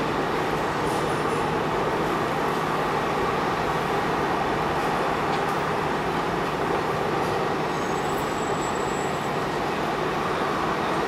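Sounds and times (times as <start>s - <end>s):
subway train wheels rumbling on rails: 0.0s - 11.0s.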